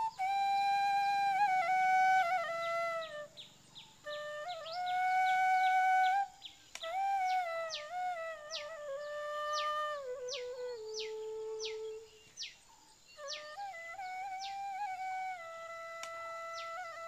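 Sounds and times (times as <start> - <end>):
flute-like wind instrument melody: 0.0 - 12.3, 13.2 - 17.0.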